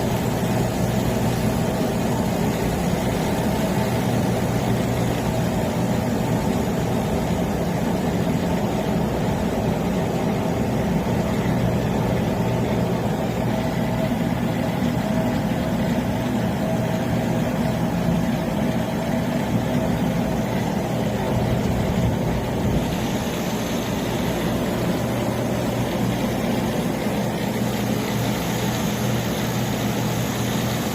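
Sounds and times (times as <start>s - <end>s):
freezer refrigeration hum: 0.0s - 30.9s.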